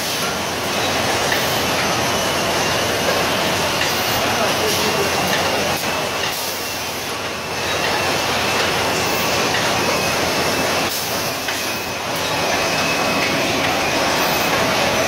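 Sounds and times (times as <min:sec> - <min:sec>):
faint steady machine whine: 0:00.0 - 0:15.0.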